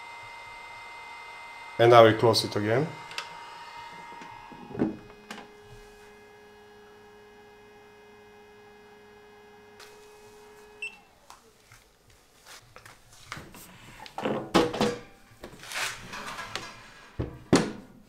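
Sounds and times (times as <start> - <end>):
fan humming: 0.0 - 17.1.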